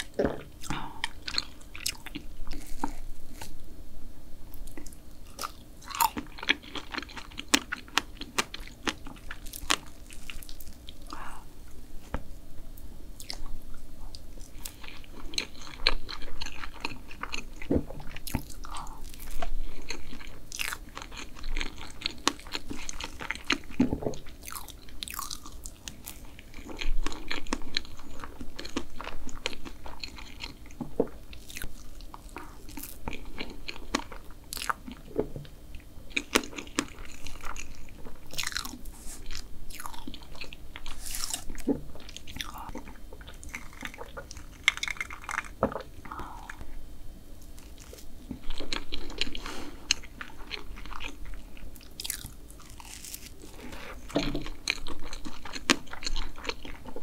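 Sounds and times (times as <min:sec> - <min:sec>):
person chewing and swallowing: 0:00.0 - 0:03.5, 0:04.5 - 0:11.4, 0:13.2 - 0:46.7, 0:47.5 - 0:57.0.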